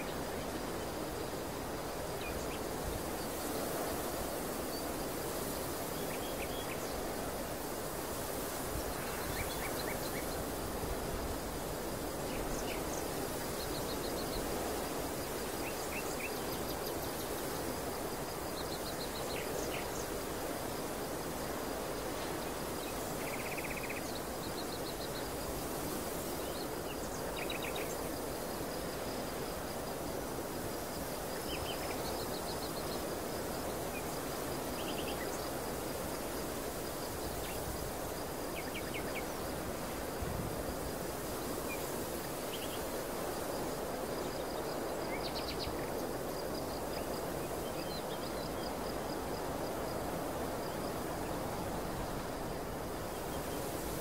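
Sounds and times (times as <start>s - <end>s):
wind rushing across grass: 0.0s - 54.0s.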